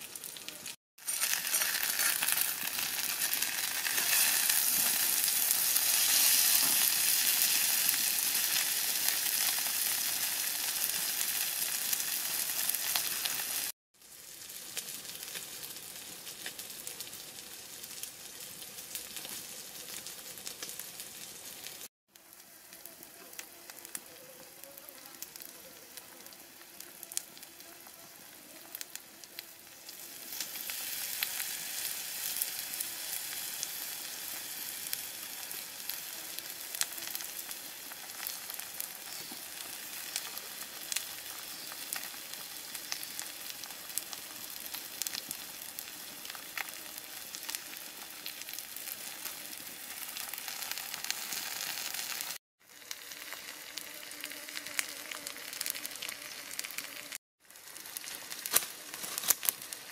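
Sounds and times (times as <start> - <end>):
small crackles: 0.0 - 13.8, 14.4 - 59.9
fish sizzling: 0.0 - 59.9.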